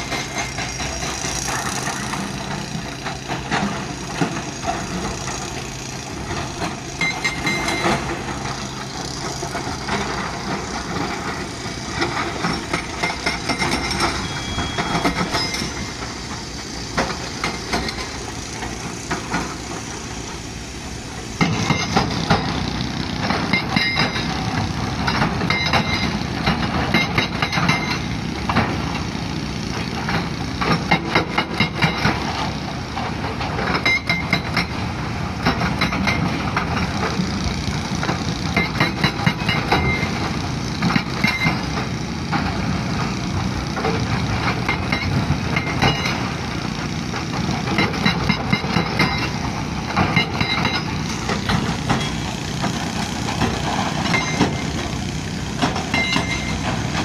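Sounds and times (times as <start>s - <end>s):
excavator diesel engine: 0.0s - 57.0s
hydraulic rock breaker hammering stone: 0.0s - 57.0s.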